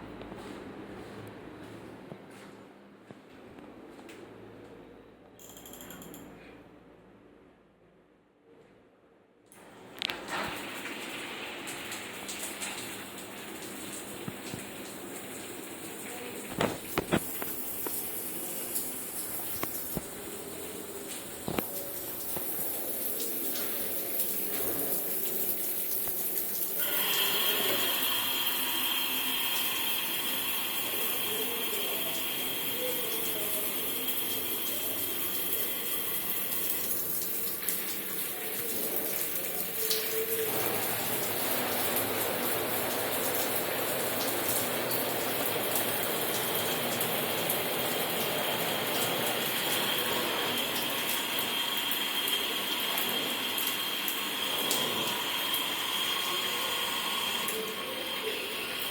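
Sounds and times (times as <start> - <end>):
water running from a tap: 10.1 - 58.9.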